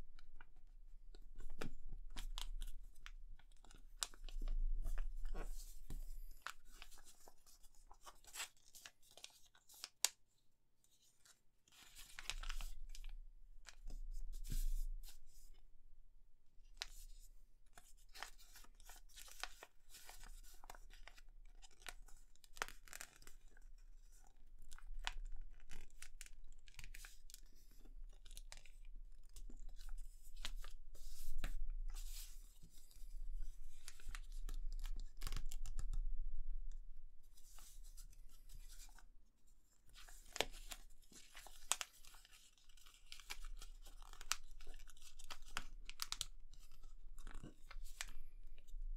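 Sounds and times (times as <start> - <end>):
paper folding rustles: 1.1 - 10.1, 10.9 - 15.5, 16.8 - 24.2, 24.8 - 35.9, 37.3 - 39.0, 39.9 - 48.4.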